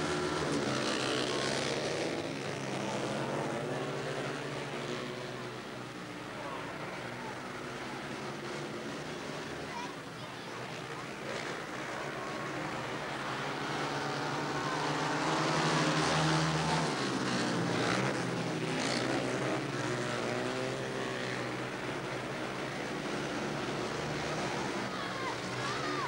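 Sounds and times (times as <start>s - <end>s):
motorcycle engines racing: 0.0s - 26.0s.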